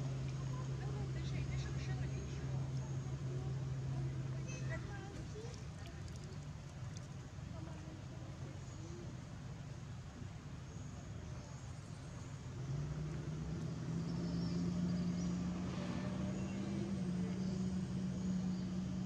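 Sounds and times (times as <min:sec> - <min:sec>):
vehicle engine running: 0:00.0 - 0:10.6, 0:11.2 - 0:19.0.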